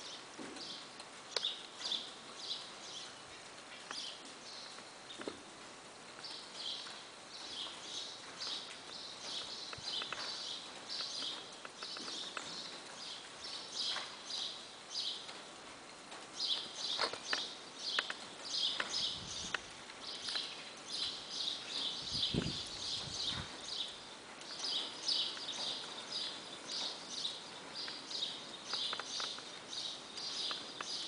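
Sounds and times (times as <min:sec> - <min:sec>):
horse hooves on sand: 0:03.9 - 0:31.0.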